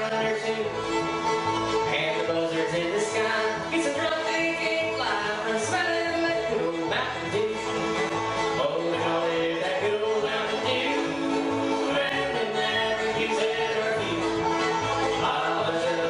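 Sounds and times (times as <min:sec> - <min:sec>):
banjo: 0:00.0 - 0:16.0
bluegrass band playing: 0:00.0 - 0:16.0
double bass walking beat: 0:00.0 - 0:16.0
fiddle: 0:00.0 - 0:16.0.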